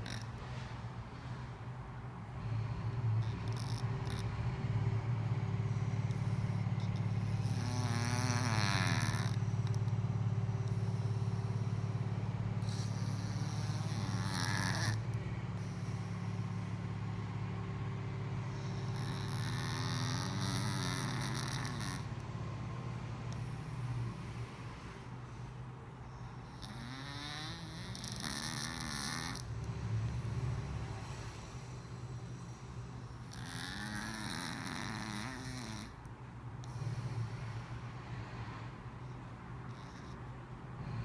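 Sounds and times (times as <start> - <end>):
pet snoring: 0.0 - 0.8, 2.3 - 17.3, 18.2 - 37.6, 39.0 - 41.0.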